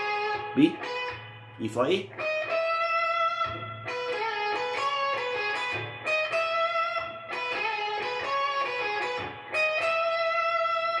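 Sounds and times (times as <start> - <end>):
electric guitar lick: 0.0 - 11.0.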